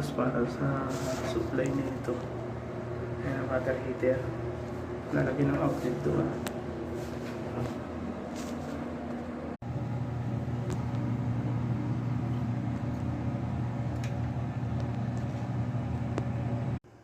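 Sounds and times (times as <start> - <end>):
low mechanical motor hum: 0.0 - 17.0.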